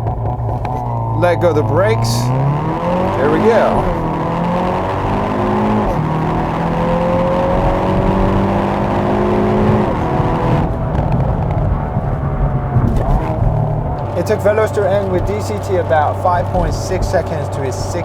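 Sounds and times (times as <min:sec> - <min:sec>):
car engine accelerating hard: 0:00.0 - 0:18.0
gearbox upshifts: 0:00.0 - 0:18.0.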